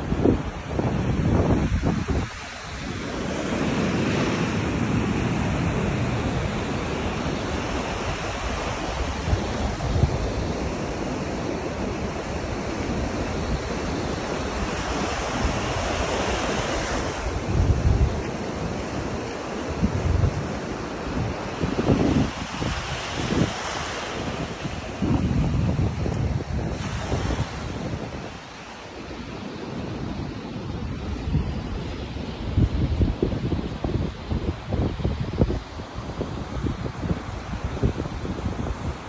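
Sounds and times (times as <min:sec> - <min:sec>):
waves washing up a beach: 0:00.0 - 0:39.0
wind buffeting microphone: 0:00.0 - 0:39.0.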